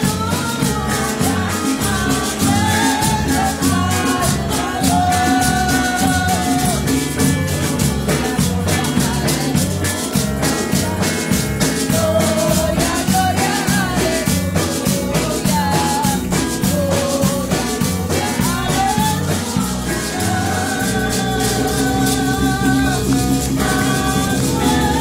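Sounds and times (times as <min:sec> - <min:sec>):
electric bass guitar: 0:00.0 - 0:25.0
percussion beat: 0:00.0 - 0:25.0
woman singing into microphone: 0:00.0 - 0:25.0.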